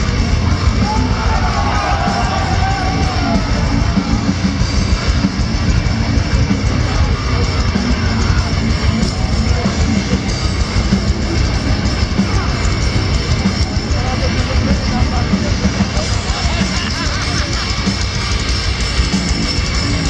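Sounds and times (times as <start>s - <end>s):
live heavy metal band: 0.0s - 20.0s.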